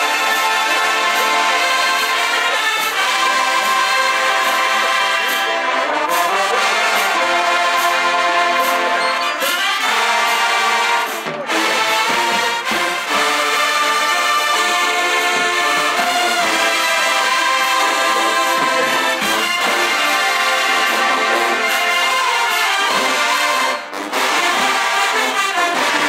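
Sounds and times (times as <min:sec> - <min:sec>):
brass holding full chords: 0:00.0 - 0:26.0
marching band playing: 0:00.0 - 0:26.0.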